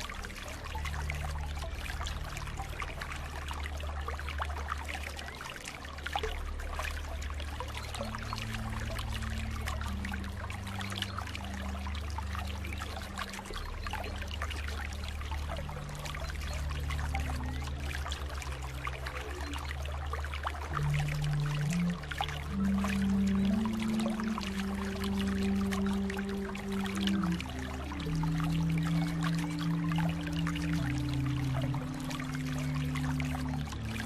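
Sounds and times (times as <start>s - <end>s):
low droning tone: 0.0s - 5.4s, 6.0s - 34.0s
water trickling over stones: 0.0s - 34.0s.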